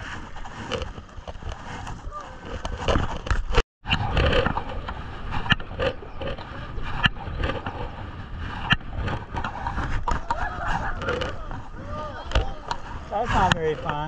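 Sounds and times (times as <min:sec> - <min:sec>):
sharp knocks and scrapes: 0:00.0 - 0:14.0.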